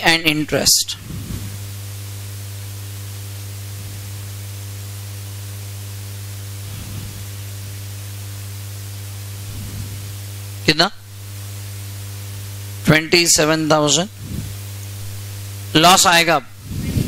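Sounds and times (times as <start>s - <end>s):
low electrical hum: 0.0s - 17.0s
recording hiss: 0.0s - 17.0s.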